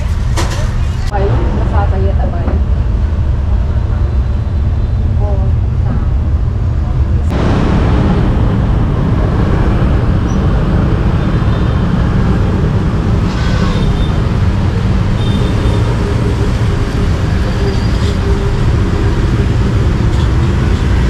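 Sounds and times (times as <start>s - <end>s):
street traffic drone: 0.0s - 21.0s.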